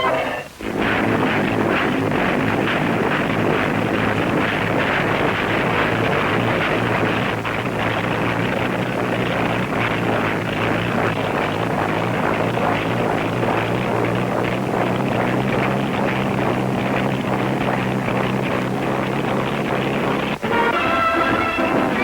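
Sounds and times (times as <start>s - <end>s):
engine running: 0.0s - 22.0s
heavy rushing noise: 0.0s - 22.0s.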